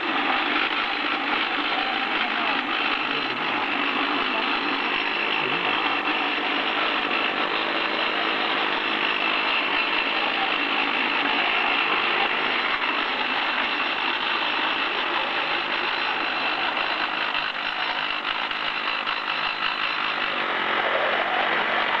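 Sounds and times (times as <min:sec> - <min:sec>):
rock drill hammering: 0:00.0 - 0:20.4.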